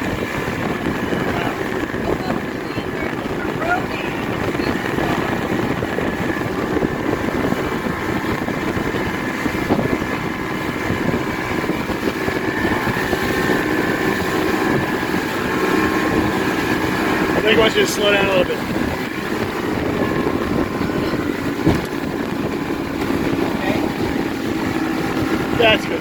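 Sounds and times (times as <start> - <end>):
motorboat engine running: 0.0 - 26.0
wind and water rushing: 0.0 - 26.0.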